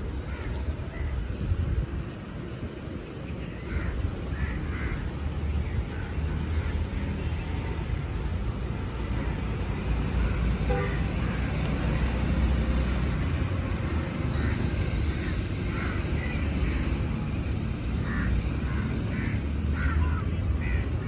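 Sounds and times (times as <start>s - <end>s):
low rumble of city traffic: 0.0s - 21.0s.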